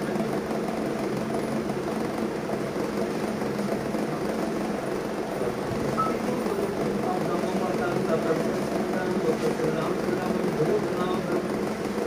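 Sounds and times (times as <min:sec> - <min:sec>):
low background hum and rumble: 0:00.0 - 0:12.0.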